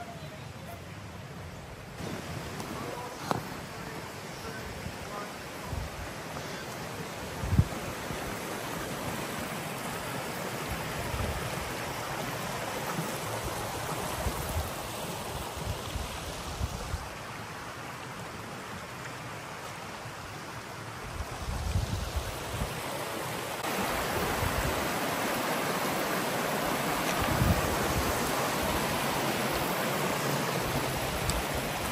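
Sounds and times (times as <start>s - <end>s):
stream rushing over stones: 0.9s - 31.9s.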